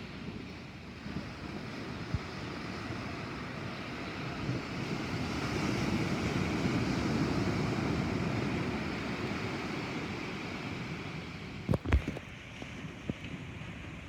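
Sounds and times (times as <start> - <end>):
wind and rain rushing: 0.0 - 14.0.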